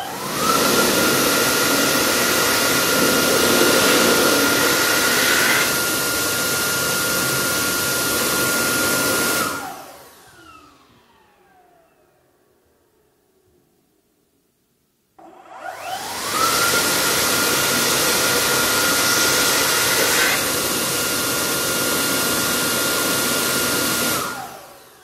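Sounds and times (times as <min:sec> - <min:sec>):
electric hand dryer running: 0:00.0 - 0:12.2, 0:15.2 - 0:25.0.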